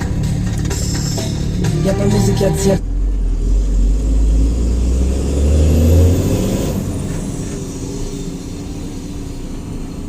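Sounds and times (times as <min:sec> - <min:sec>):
vehicle engine rumbling under load: 0:00.0 - 0:10.0.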